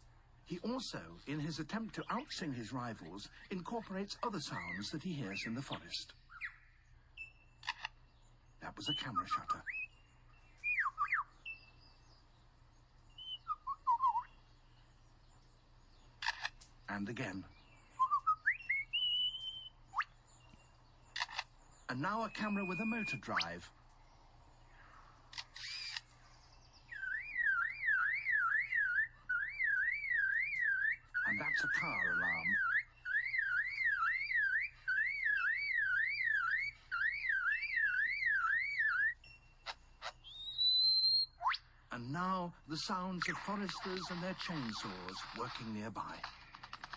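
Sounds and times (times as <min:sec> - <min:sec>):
lyrebird whistling and warbling: 0:03.3 - 0:07.9, 0:08.6 - 0:12.1, 0:13.1 - 0:14.5, 0:17.2 - 0:23.8, 0:24.7 - 0:46.9.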